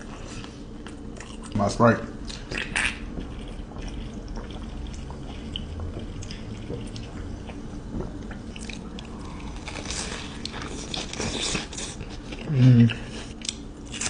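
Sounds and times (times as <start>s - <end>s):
chewing: 0.0s - 1.6s, 2.2s - 14.0s.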